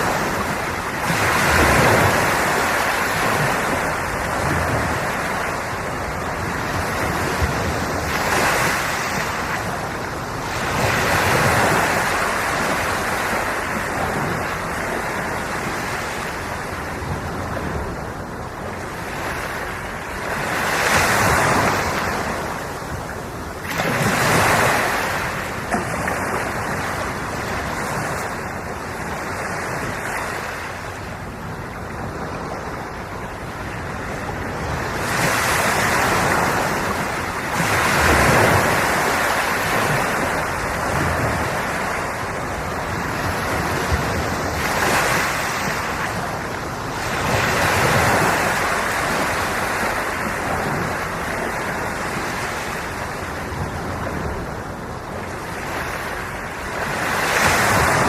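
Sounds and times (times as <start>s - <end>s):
waves breaking on shore: 0.0s - 58.0s
wind buffeting microphone: 0.0s - 58.0s.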